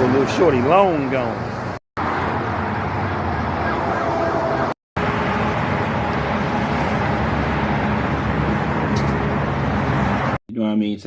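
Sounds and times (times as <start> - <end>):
traffic noise: 0.0 - 10.4.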